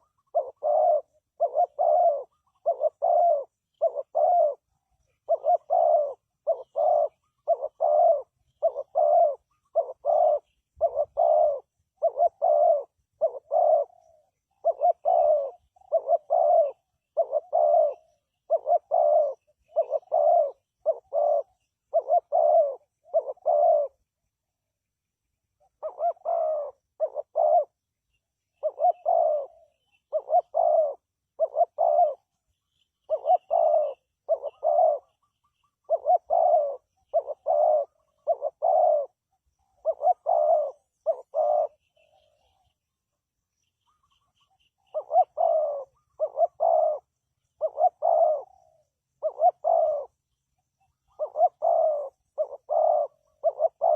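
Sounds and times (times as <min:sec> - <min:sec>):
dove cooing: 0:00.0 - 0:24.3, 0:25.4 - 0:53.9.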